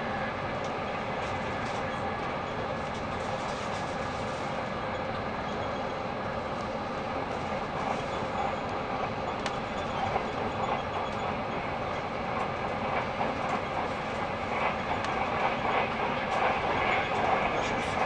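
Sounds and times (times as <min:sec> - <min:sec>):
train carriage rushing noise: 0:00.0 - 0:18.0.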